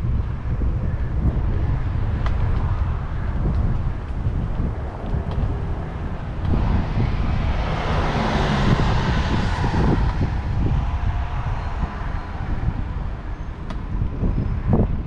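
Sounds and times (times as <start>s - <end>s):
wind rumble on microphone: 0.0s - 15.0s
vehicle passing: 1.6s - 14.8s.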